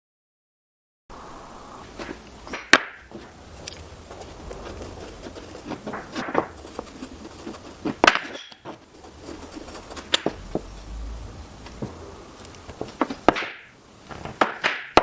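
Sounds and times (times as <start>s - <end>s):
wooden pieces knocking: 2.0s - 10.9s, 11.6s - 15.0s.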